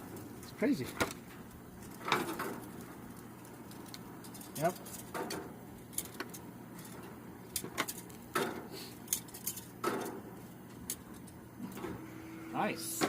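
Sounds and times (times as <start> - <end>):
hard objects clicking and knocking: 0.9 - 11.4.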